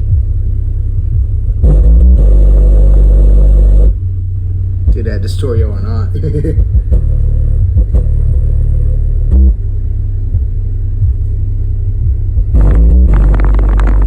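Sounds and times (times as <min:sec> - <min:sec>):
deep bass from subwoofer: 0:00.0 - 0:14.0.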